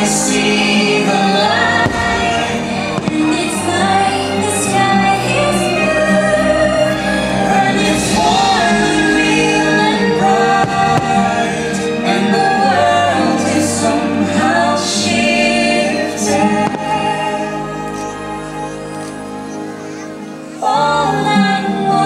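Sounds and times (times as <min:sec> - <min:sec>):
orchestral music: 0:00.0 - 0:22.0
voices singing long notes: 0:00.0 - 0:22.0.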